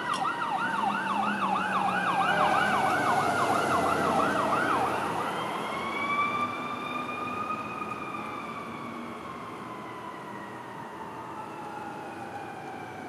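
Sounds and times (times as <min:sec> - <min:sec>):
fire engine siren wailing: 0:00.0 - 0:13.0
street noise: 0:00.0 - 0:13.0.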